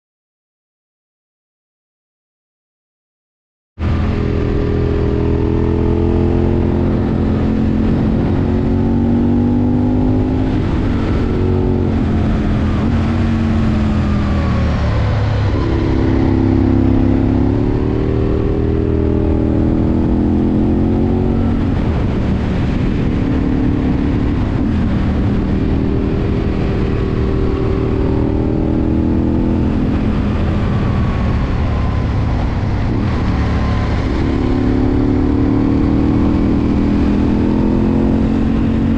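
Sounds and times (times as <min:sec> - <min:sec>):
motorcycle engine accelerating: 0:03.8 - 0:38.9.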